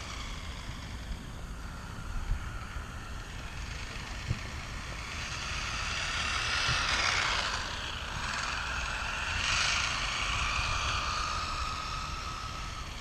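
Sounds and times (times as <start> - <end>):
rc car motor whining: 0.0 - 13.0
wind rumbling on microphone: 0.0 - 13.0.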